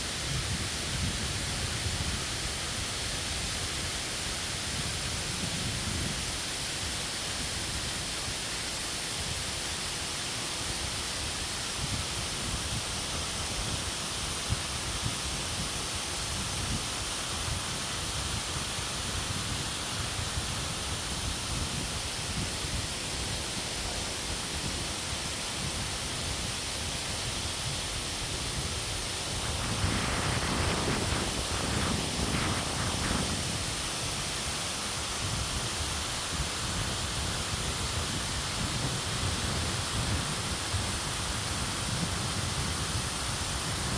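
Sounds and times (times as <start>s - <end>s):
steady rushing noise: 3.2s - 43.9s.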